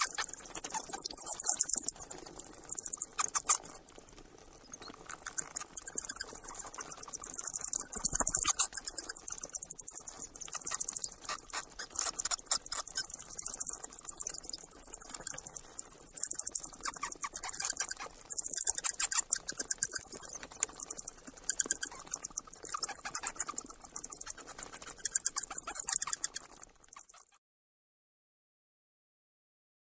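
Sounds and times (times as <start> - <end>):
rats squeaking: 0.0 - 27.4.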